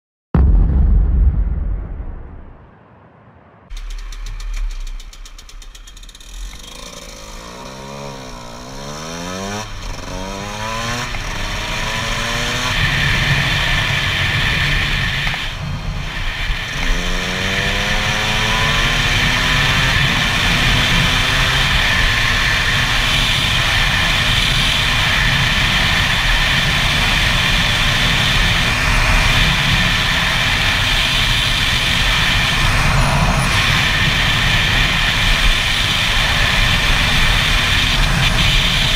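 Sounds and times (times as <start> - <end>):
wind rush: 0.4 - 5.3, 11.6 - 38.9
two-stroke motorcycle engine revving: 3.8 - 38.9.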